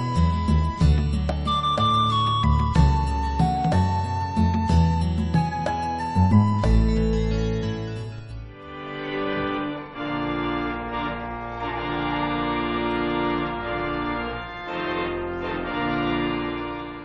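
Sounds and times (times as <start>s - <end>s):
organ playing slow held chords: 0.0s - 17.0s.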